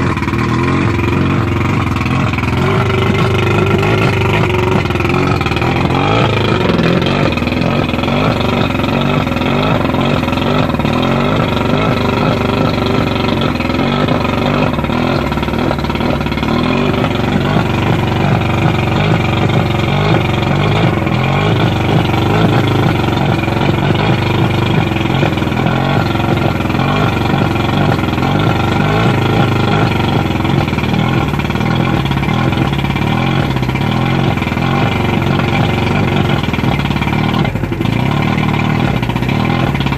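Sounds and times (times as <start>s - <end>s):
outboard motor idling: 0.0s - 39.9s.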